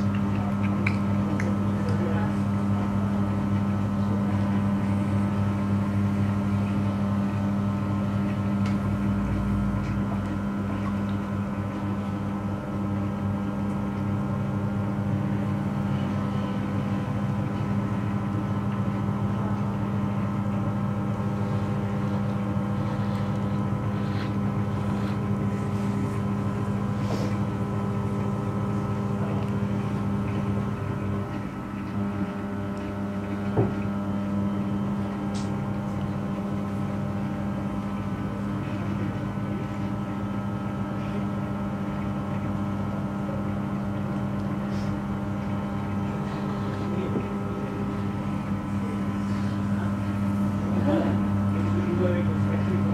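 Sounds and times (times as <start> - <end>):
potter's wheel motor humming: 0.0 - 52.9.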